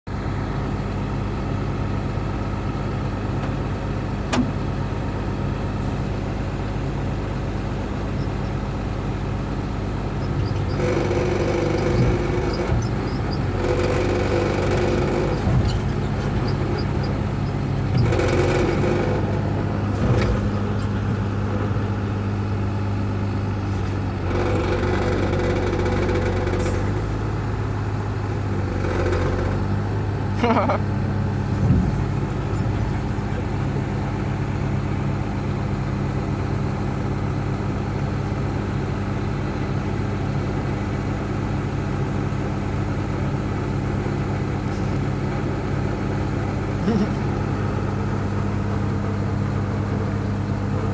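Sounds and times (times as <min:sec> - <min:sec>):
excavator diesel engine: 0:00.1 - 0:50.9.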